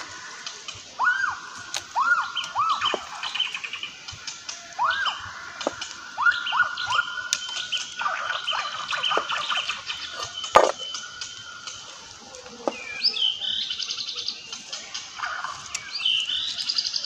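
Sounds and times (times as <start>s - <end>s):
bird-like chirping calls: 0.0s - 17.0s
high twittering: 0.0s - 17.0s.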